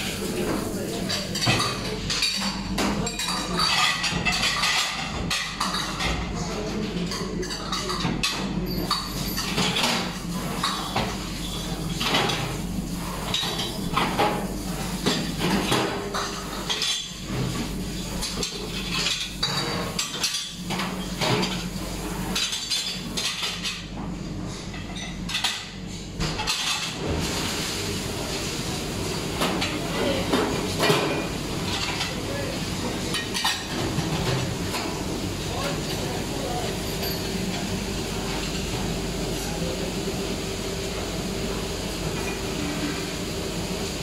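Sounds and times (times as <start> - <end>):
dishes clinking and clattering: 0.0 - 27.5, 28.4 - 39.6, 42.1 - 43.0.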